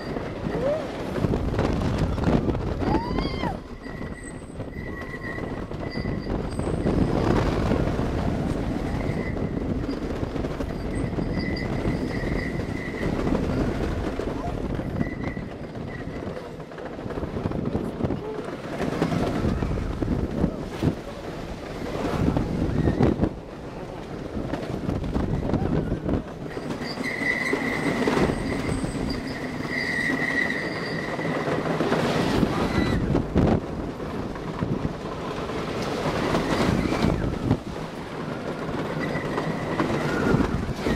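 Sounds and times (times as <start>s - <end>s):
roller coaster wheels rattling: 0.0s - 40.9s.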